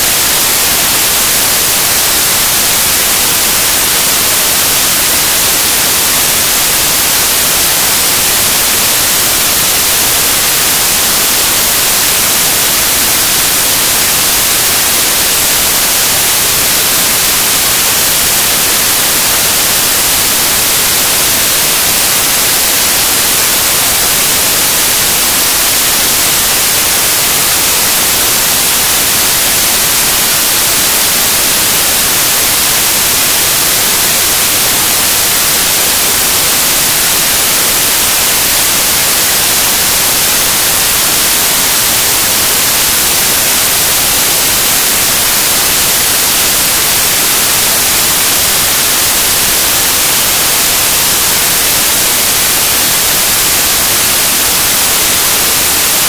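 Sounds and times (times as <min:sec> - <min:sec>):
static hiss: 0:00.0 - 0:56.0.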